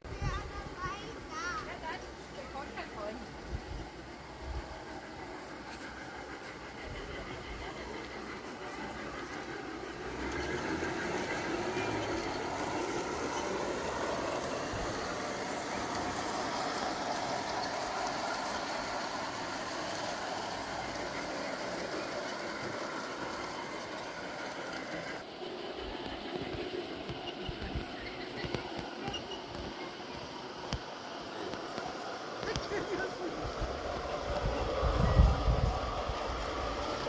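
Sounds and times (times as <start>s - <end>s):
model train rolling on track: 0.0s - 37.0s.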